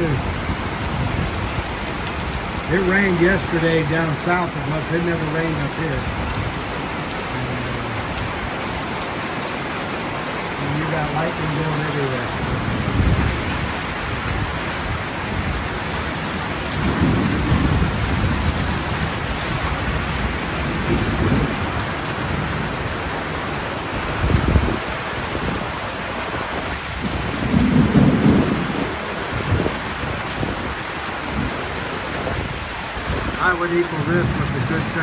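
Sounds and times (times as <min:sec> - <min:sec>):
thunder rumbling: 0:00.0 - 0:09.0, 0:10.6 - 0:25.8, 0:26.4 - 0:35.0
heavy rain pouring: 0:00.0 - 0:35.0.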